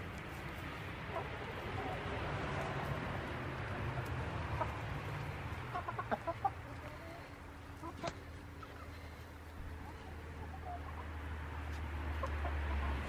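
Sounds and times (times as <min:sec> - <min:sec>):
chickens clucking: 0:00.0 - 0:13.0
steady low hum: 0:00.0 - 0:13.0.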